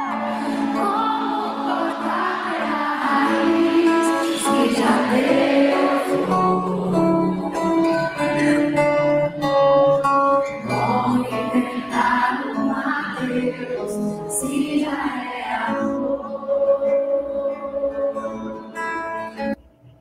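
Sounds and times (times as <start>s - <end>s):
woman singing pop song: 0.0s - 8.4s, 10.6s - 18.2s
instrumental backing: 0.0s - 20.0s.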